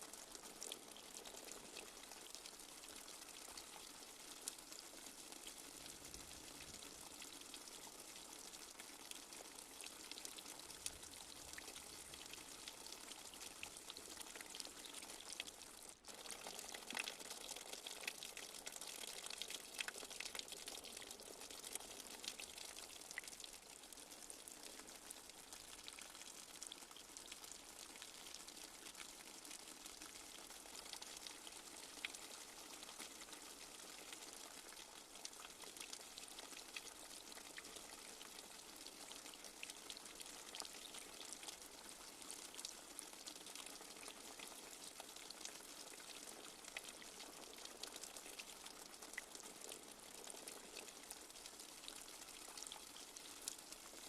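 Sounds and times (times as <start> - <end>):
light rain falling: 0.0 - 53.9.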